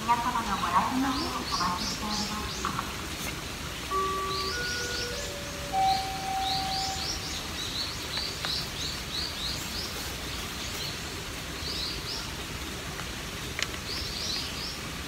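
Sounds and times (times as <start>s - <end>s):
outdoor background noise: 0.0s - 15.0s
small birds chirping: 0.4s - 15.0s.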